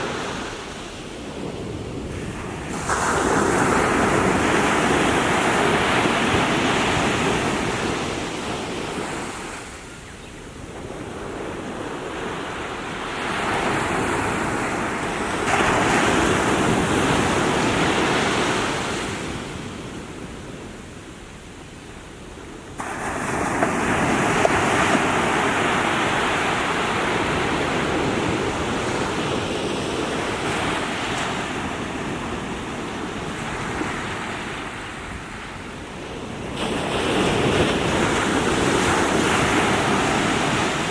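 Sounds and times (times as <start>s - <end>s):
small waves washing ashore: 0.0s - 40.9s.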